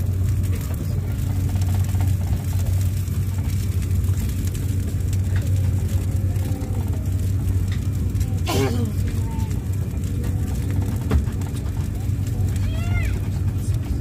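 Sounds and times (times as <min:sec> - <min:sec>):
train rumbling at speed: 0:00.0 - 0:14.0.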